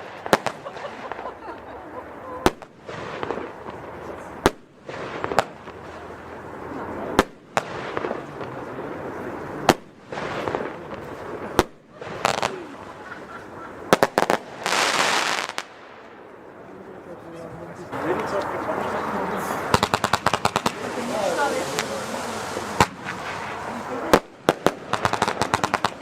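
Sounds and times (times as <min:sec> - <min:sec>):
firework crackling hiss: 0:00.0 - 0:16.4, 0:17.9 - 0:26.0
firework bangs: 0:00.0 - 0:16.7, 0:17.9 - 0:26.0.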